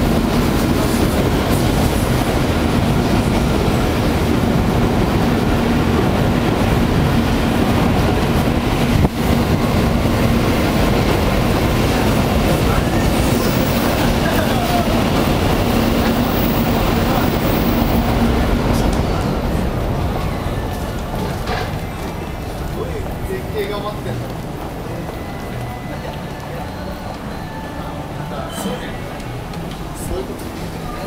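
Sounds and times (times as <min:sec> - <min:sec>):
train rumbling on viaduct: 0:00.0 - 0:31.0.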